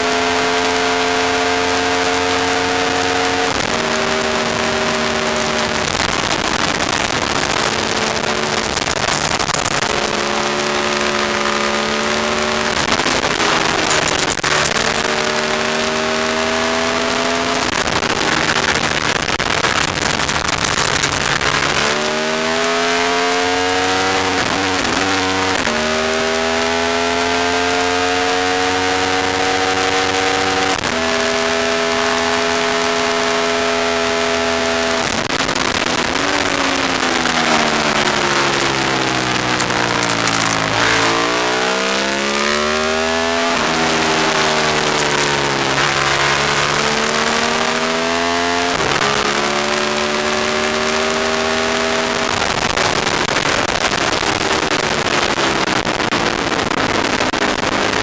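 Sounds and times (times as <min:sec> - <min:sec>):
motorcycle engine at race pace: 0:00.0 - 0:58.0.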